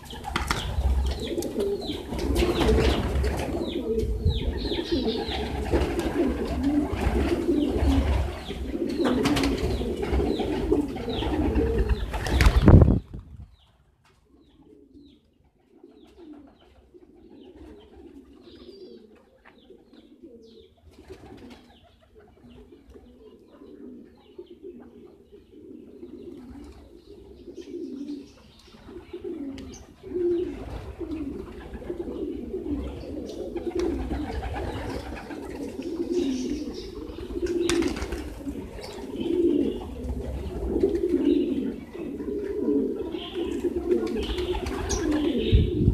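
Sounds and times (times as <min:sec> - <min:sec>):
pigeons cooing: 0:00.0 - 0:13.0, 0:14.3 - 0:45.9.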